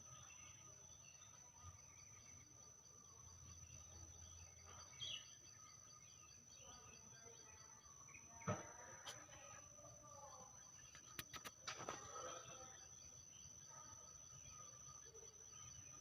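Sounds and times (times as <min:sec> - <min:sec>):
bird chirps: 0:00.0 - 0:16.0
insect hum: 0:00.0 - 0:16.0.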